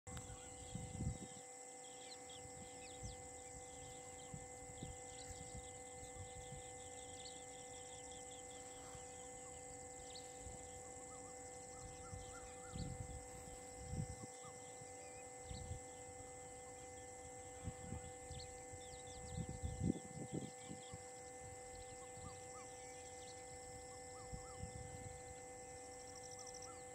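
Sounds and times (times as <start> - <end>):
bird chirps: 0.1 - 26.9
steady background hum: 0.1 - 26.9.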